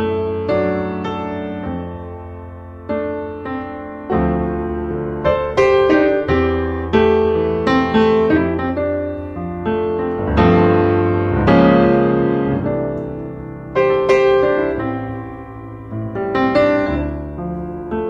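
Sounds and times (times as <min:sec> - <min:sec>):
piano chords ringing: 0:00.0 - 0:18.0.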